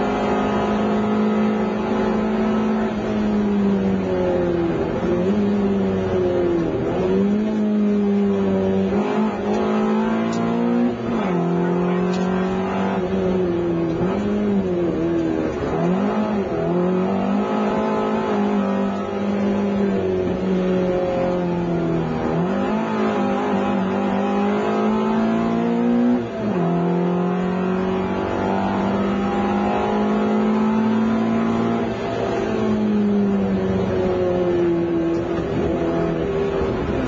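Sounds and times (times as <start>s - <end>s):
car engine revving from inside cabin: 0.0s - 37.0s.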